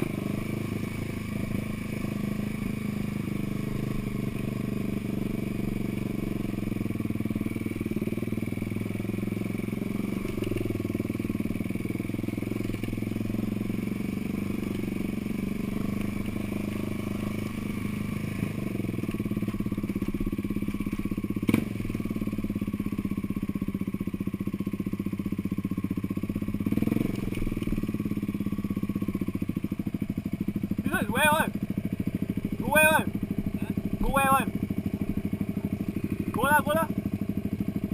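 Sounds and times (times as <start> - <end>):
off-road vehicle engine running: 0.0 - 37.9.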